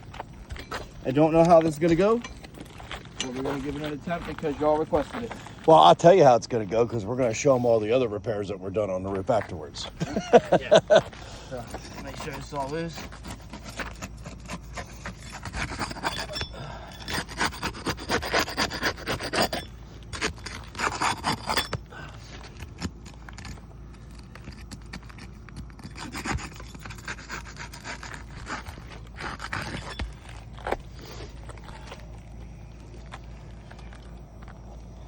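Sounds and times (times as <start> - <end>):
tool scraping roof shingles: 0.0 - 7.6, 9.0 - 34.0.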